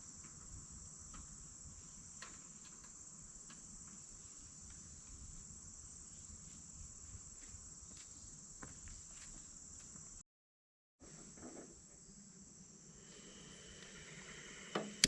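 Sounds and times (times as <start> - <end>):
insects chirring: 0.0 - 10.2, 11.1 - 15.0.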